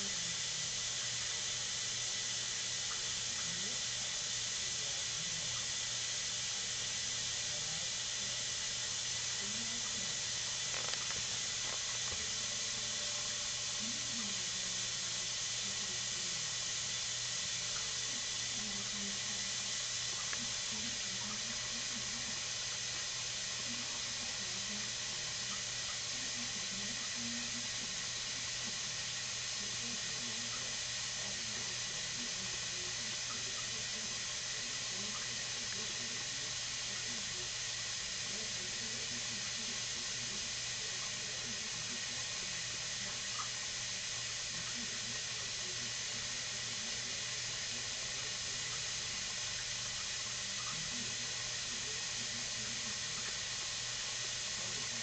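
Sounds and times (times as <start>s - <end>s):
washing machine filling with water: 0.0s - 55.0s.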